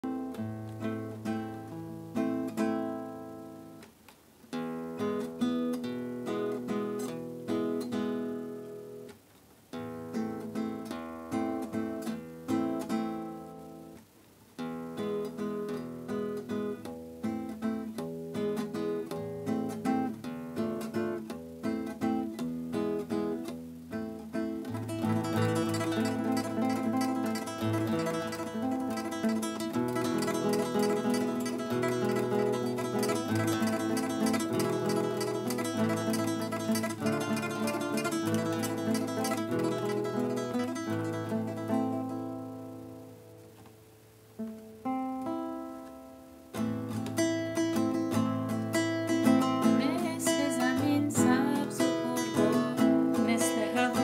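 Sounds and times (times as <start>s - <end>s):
acoustic guitar melody: 0.0s - 54.0s.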